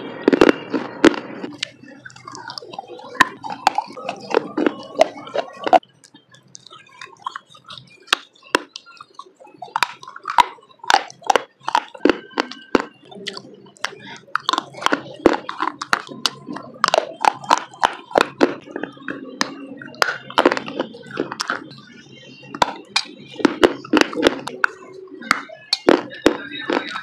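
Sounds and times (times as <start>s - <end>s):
biting and chewing clay: 0.0s - 27.0s.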